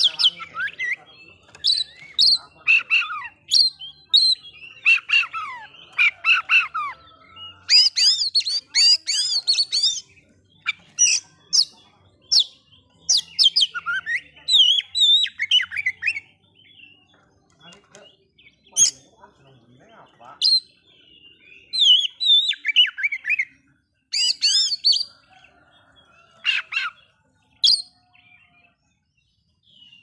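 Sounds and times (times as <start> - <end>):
bird singing: 0.0 - 30.0.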